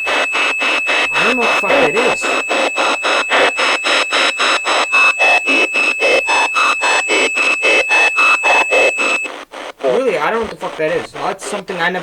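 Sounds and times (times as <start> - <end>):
radio static bursts: 0.0 - 12.0
steady high whine: 0.0 - 12.0.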